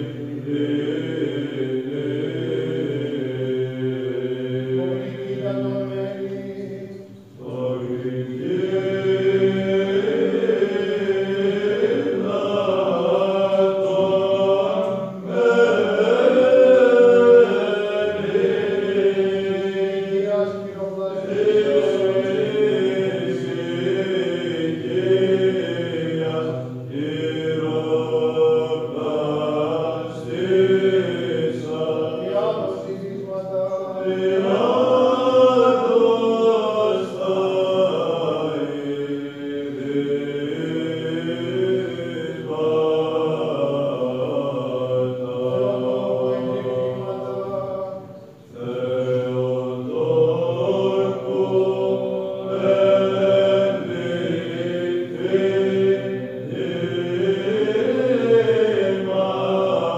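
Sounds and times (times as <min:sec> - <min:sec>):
held vocal drone: 0:00.0 - 0:59.9
voices chanting slow melody: 0:00.0 - 0:59.9.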